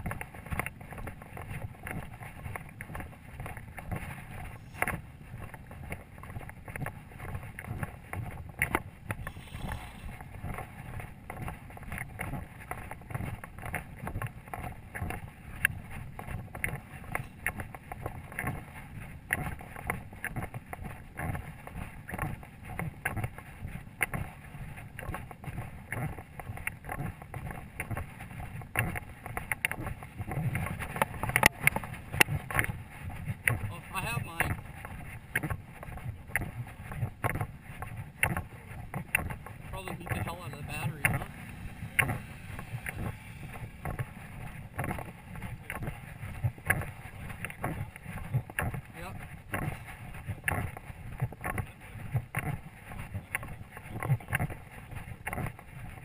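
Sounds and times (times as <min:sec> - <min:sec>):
footsteps through dry grass: 0:00.0 - 0:56.0
wind rumbling on microphone: 0:00.0 - 0:56.0.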